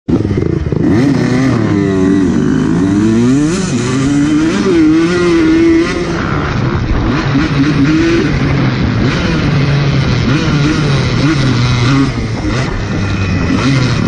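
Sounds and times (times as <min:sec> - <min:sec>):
motocross bike engine revving: 0:00.1 - 0:14.0.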